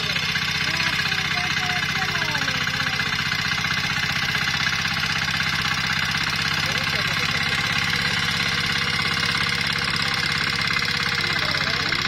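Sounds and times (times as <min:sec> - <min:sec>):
small tiller engine putter: 0:00.0 - 0:12.0.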